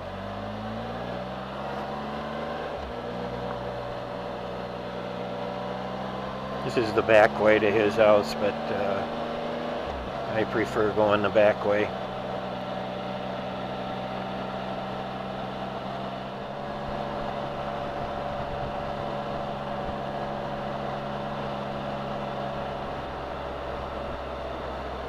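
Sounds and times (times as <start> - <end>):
motorcycle engine and road drone: 0.0 - 25.0
constant high hum: 1.4 - 25.0.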